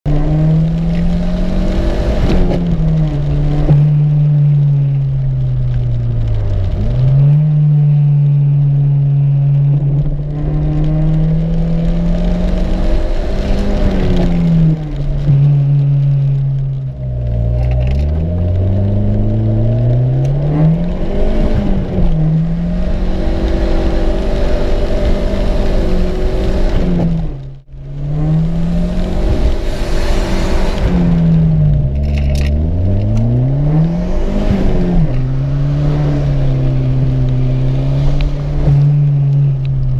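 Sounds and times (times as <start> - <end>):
car engine pulling through gears: 0.0 - 39.9.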